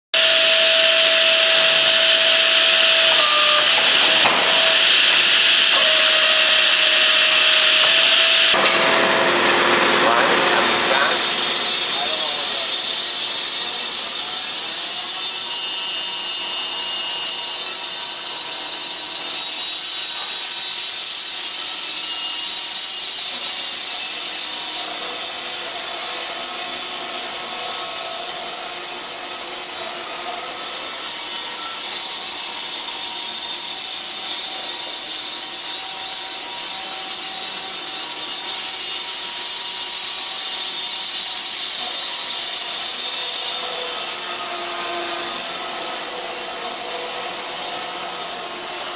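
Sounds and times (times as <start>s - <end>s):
saw blade cutting log: 0.2s - 48.9s.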